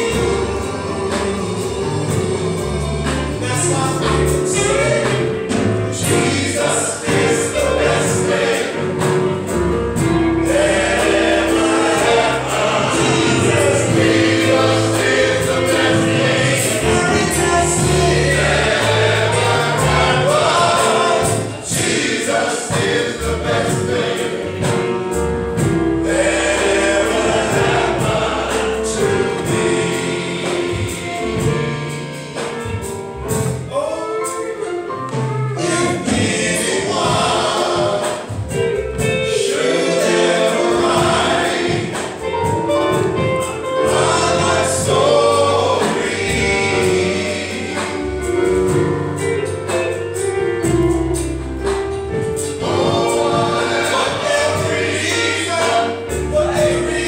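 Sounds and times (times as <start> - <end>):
male gospel chorus singing: 0.0 - 34.3, 35.6 - 57.0
low accompaniment: 0.0 - 57.0.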